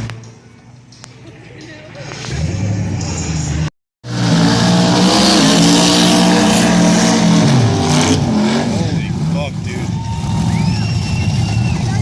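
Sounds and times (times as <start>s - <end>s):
drag car engine at full throttle: 2.0s - 12.0s.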